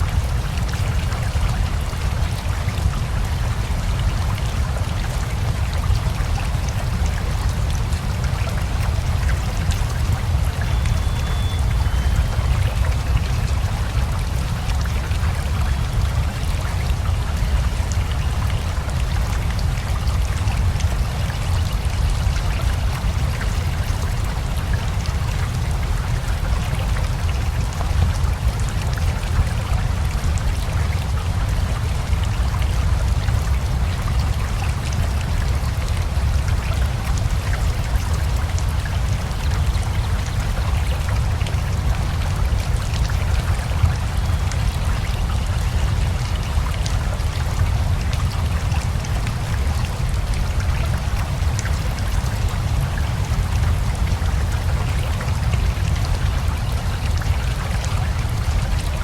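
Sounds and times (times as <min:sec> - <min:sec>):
river flowing: 0:00.0 - 0:59.0
steady rain: 0:00.0 - 0:59.0.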